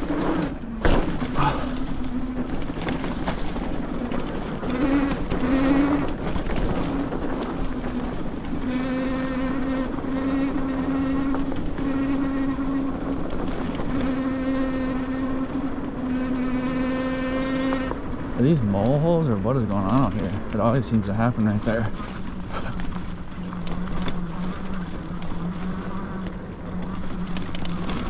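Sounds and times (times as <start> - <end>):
electric hub motor whining: 0.0 - 28.0
tyre and wind noise rumble: 0.0 - 28.0.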